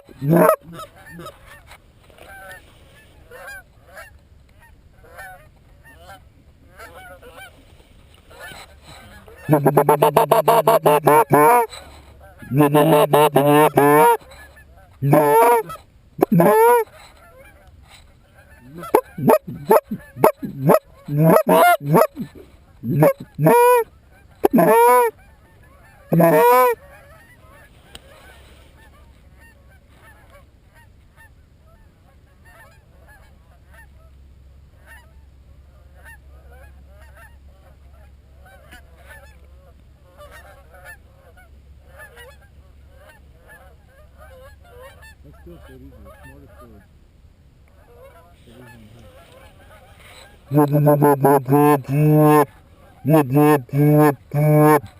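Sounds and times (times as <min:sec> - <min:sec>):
goose honking: 0:00.0 - 0:02.6, 0:03.2 - 0:07.5, 0:08.3 - 0:31.8, 0:35.8 - 0:46.9, 0:47.8 - 0:54.9.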